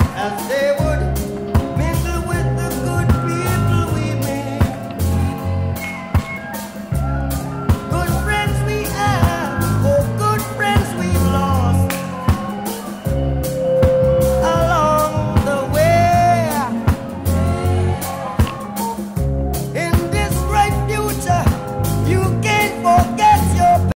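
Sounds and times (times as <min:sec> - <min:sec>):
song with vocals guitar and drums: 0:00.0 - 0:23.9.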